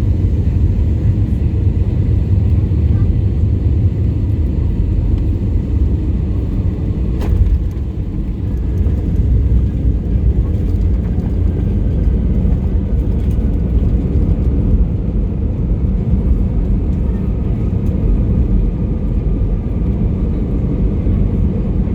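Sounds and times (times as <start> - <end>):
jet engine rumble in cabin: 0.0 - 21.9.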